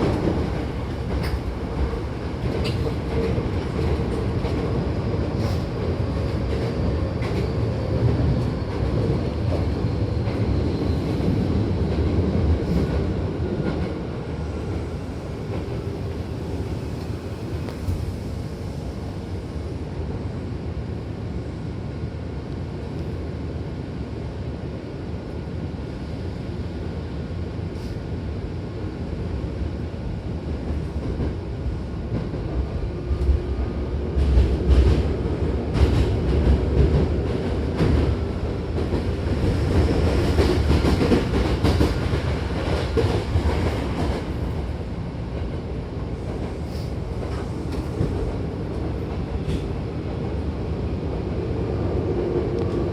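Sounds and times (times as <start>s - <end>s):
train rumble inside carriage: 0.0s - 52.9s.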